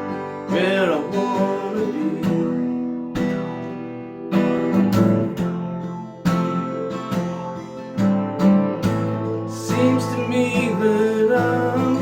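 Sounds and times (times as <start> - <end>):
acoustic guitar strummed chords: 0.0 - 12.0.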